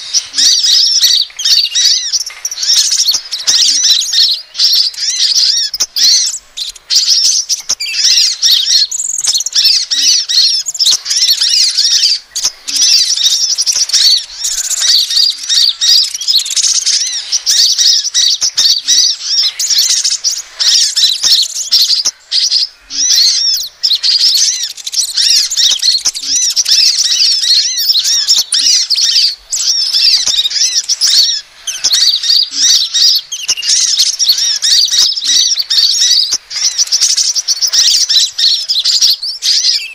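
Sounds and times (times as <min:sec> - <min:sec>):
rapid high-pitched bird twittering: 0:00.0 - 0:39.9.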